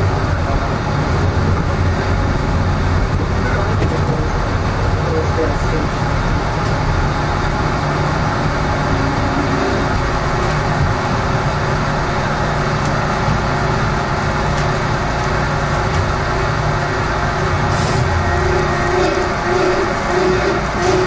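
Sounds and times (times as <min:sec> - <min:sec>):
constant low hum: 0:00.0 - 0:21.0
train wheels rumbling on rails: 0:00.0 - 0:21.0.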